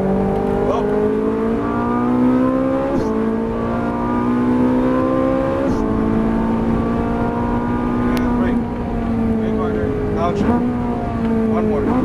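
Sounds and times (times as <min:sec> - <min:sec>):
car engine accelerating with upshifts: 0:00.0 - 0:12.0.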